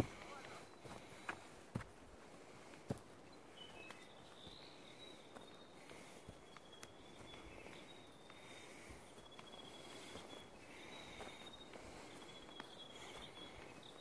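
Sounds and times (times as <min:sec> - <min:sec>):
forest ambience: 0:00.0 - 0:14.0
soft footsteps on track: 0:00.0 - 0:14.0.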